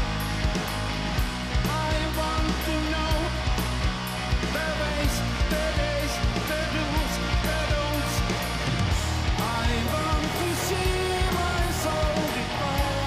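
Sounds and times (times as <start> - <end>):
drum beat with cymbals: 0.0 - 13.0
gliding melodic lead line: 0.0 - 13.0
low bass: 0.0 - 13.0
rock band playing: 0.0 - 13.0.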